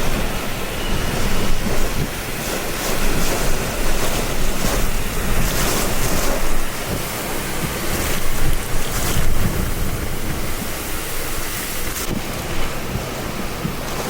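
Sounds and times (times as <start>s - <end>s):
heavy rain: 0.0s - 14.0s
hurricane winds gusting: 0.0s - 14.0s
wind buffeting microphone: 0.0s - 14.0s.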